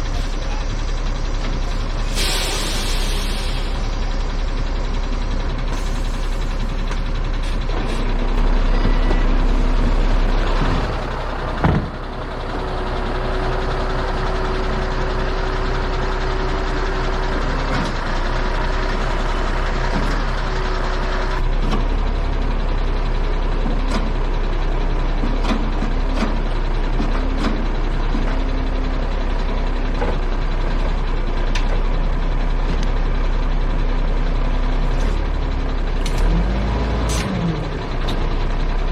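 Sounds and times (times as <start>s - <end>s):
truck engine rumble: 0.0s - 38.9s.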